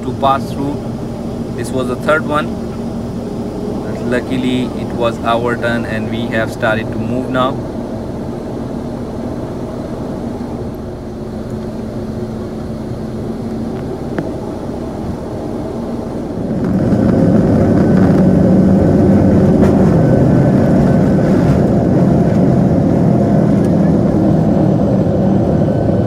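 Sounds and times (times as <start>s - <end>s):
high engine whine: 0.0s - 26.0s
jet engine rumble: 0.0s - 26.0s.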